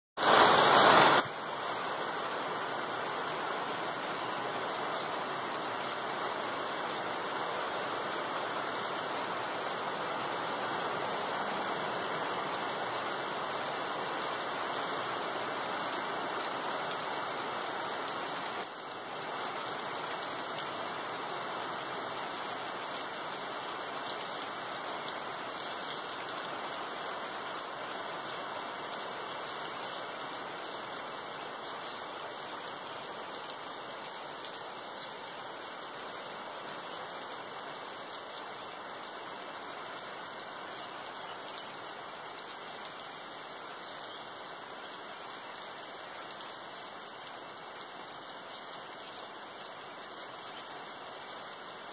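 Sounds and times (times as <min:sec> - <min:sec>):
heavy rain on leaves: 0:00.2 - 0:51.9.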